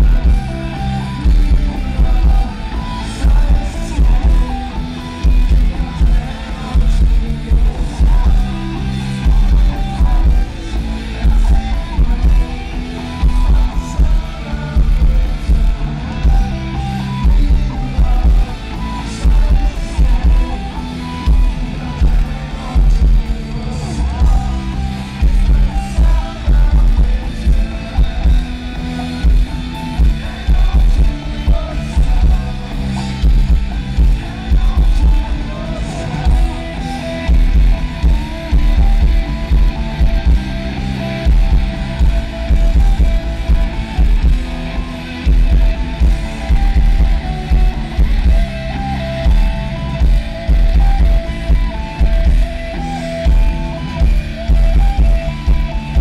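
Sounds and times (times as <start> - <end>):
drum kit steady beat: 0.0 - 56.0
electric guitars: 0.0 - 56.0.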